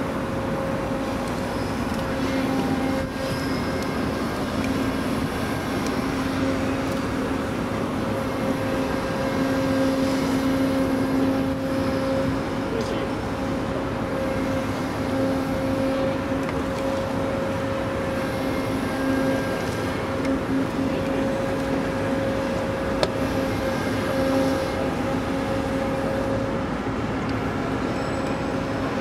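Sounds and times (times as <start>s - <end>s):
heavy machinery drone: 0.0s - 29.0s.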